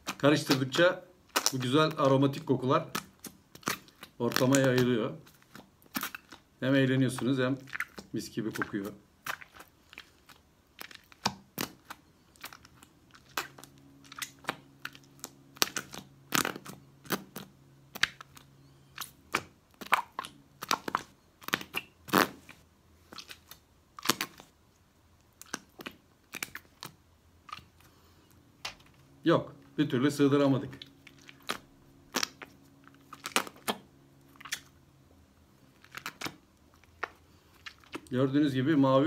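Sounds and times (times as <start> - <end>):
slime squeezed with sticky pops: 0.0 - 27.8, 30.5 - 34.8, 35.7 - 38.1.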